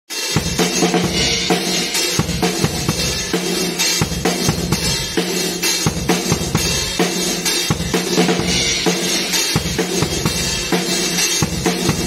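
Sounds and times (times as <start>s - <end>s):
drum kit playing groove: 0.1s - 12.0s.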